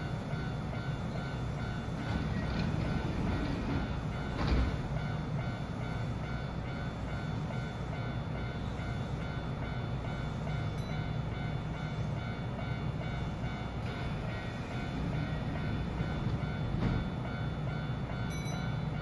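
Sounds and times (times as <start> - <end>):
electric train rumble: 0.0 - 19.0
level-crossing warning bell: 0.0 - 19.0.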